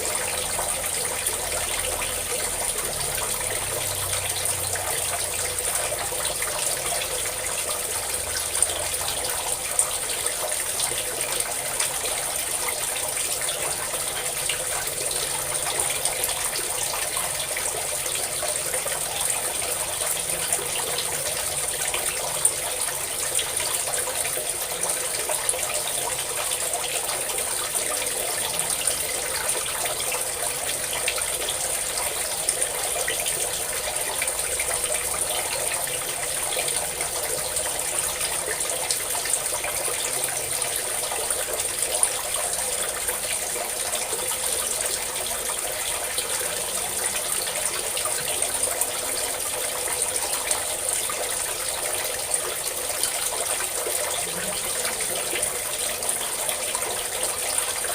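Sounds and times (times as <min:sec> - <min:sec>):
water pouring and splashing: 0:00.0 - 0:57.9.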